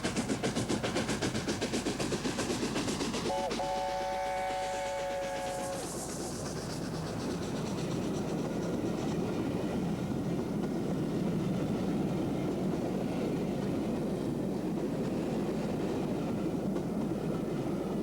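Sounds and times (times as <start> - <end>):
steam locomotive rumbling past: 0.0 - 18.0.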